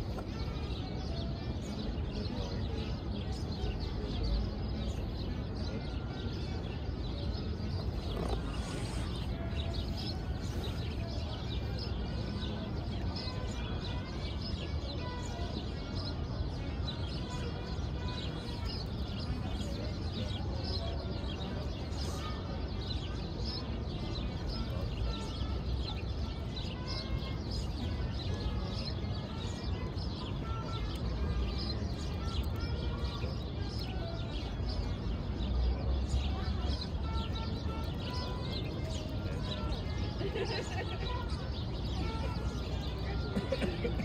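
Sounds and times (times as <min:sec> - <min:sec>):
low hum of city traffic: 0:00.0 - 0:44.0
small birds chirping: 0:00.0 - 0:44.0.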